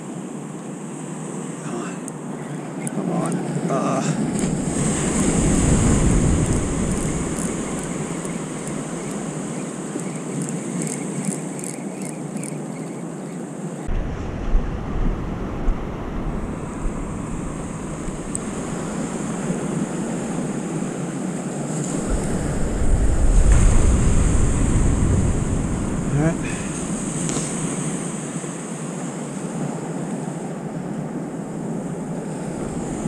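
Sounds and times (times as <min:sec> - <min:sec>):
surf washing on a beach: 0:00.0 - 0:11.8, 0:13.0 - 0:33.0
wind buffeting microphone: 0:04.2 - 0:12.5, 0:13.8 - 0:33.0.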